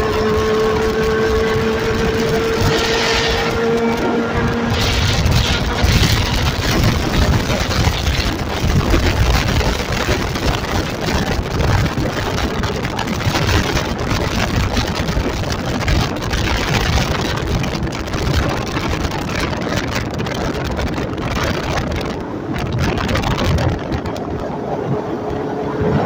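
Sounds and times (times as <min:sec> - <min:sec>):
motorcycle engine and road noise: 0:00.0 - 0:26.0
wind on microphone: 0:00.0 - 0:26.0.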